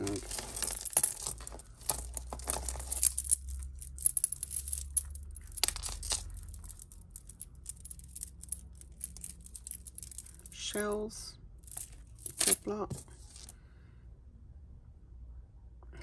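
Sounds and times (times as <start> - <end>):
jewellery beads clinking: 0.0 - 13.5.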